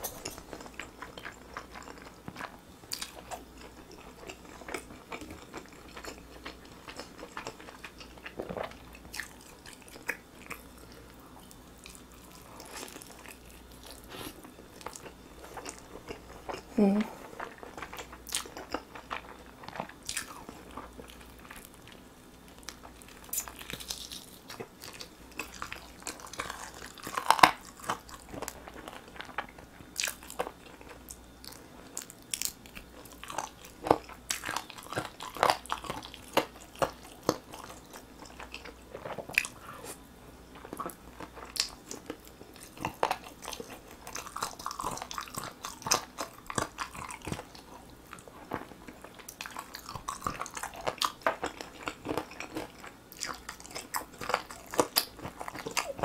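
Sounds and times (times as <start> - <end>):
person chewing chicken: 0.0 - 56.0.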